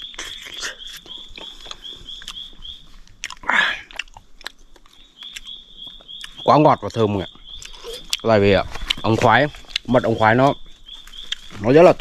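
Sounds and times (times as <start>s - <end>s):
high chirp repeating: 0.0s - 2.8s, 4.9s - 12.0s
chewing honeycomb: 0.0s - 12.0s.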